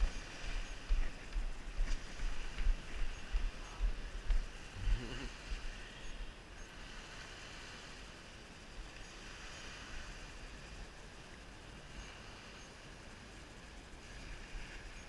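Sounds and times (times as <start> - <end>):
small waves on shore: 0.0 - 15.0
wind rumble on microphone: 0.0 - 15.0.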